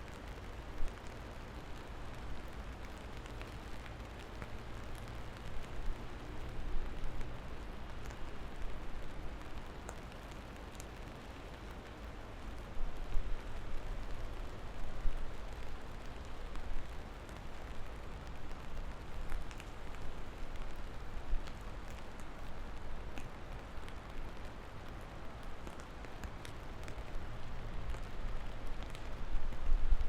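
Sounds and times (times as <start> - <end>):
steady rain hiss: 0.0 - 30.0
raindrop ticks: 0.1 - 30.0.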